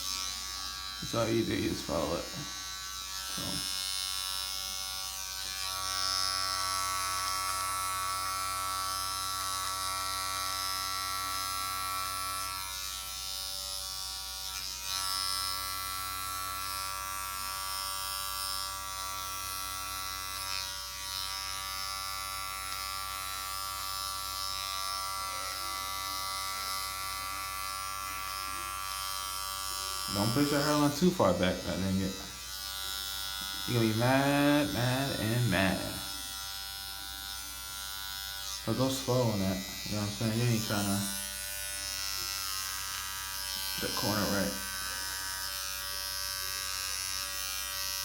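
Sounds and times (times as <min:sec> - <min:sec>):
electric hair clippers buzzing: 0:00.0 - 0:48.0.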